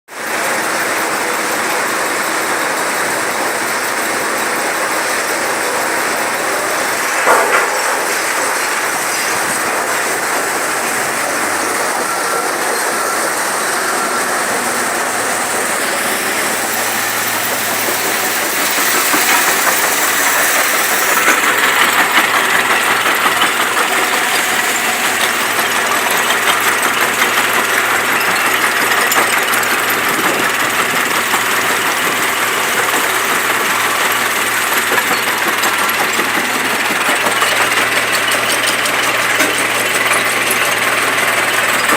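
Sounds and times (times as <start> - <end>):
machinery running: 0.1 - 41.9
dense clattering: 5.1 - 41.9.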